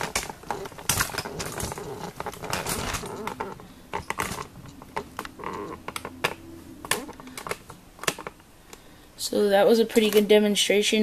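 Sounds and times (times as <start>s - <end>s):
plastic parts clicking and rattling: 0.0s - 8.8s, 9.9s - 10.4s.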